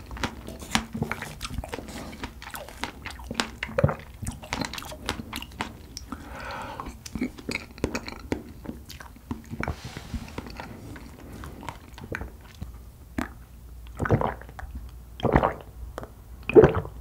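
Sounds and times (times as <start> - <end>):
soft chewing: 0.0 - 15.0
loud gulps drinking: 0.0 - 17.0.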